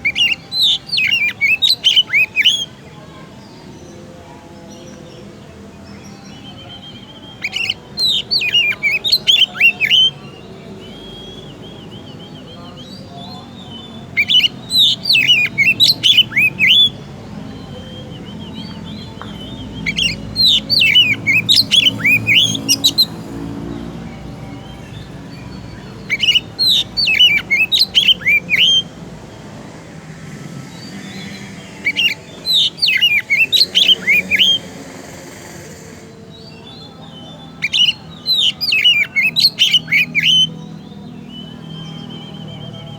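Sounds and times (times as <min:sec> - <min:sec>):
bird singing whistled notes: 0:00.0 - 0:04.0, 0:04.6 - 0:42.9.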